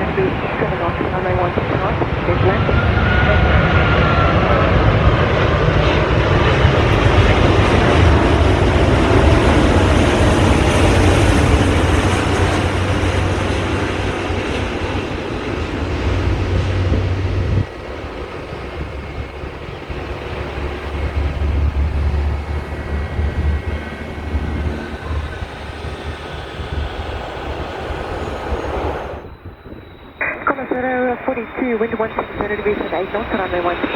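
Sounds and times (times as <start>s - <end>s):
jet landing rush and rumble: 0.0s - 33.9s.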